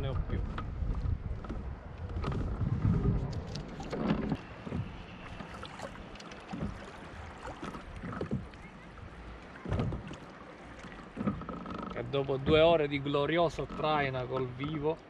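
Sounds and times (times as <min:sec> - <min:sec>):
wind rumbling on microphone: 0:00.0 - 0:14.6
light knocks and splashes: 0:00.2 - 0:15.0
water lapping against kayak hull: 0:00.2 - 0:15.0.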